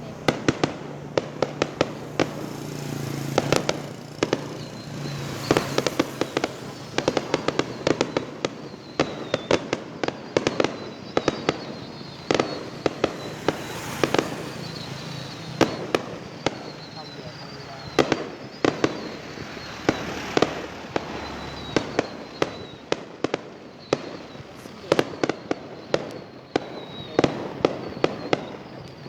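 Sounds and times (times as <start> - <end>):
fireworks bangs: 0.0 - 29.0
fireworks whistling: 0.0 - 29.0.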